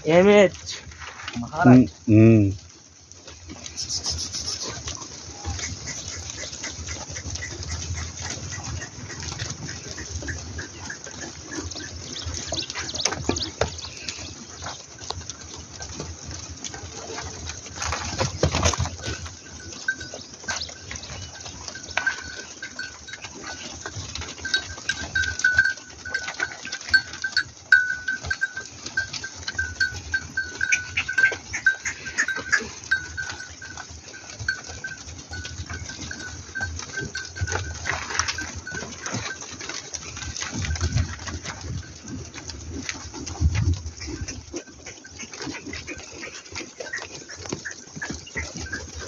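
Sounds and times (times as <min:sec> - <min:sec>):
hooves on gravel: 0:00.0 - 0:49.0
sheep and goats bleating: 0:03.4 - 0:49.0.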